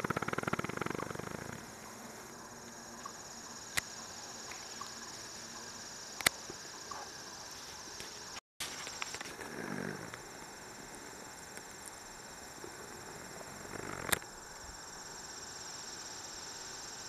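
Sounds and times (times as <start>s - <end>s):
crickets and insects trilling: 0.0s - 17.0s.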